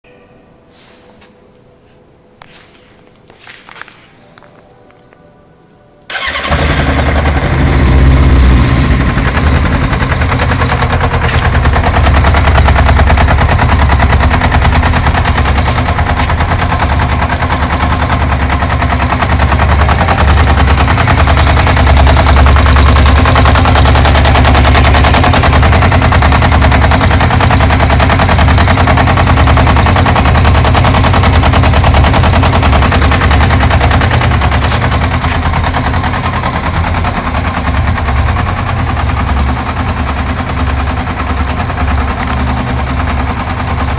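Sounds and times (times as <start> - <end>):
knocking clatter inside engine: 6.1 - 43.9
motorcycle engine running: 6.1 - 43.9.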